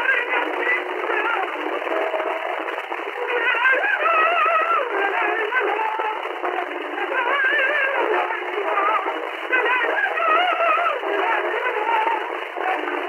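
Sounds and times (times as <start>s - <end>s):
soprano singing with vibrato: 0.0s - 1.6s, 3.2s - 13.0s.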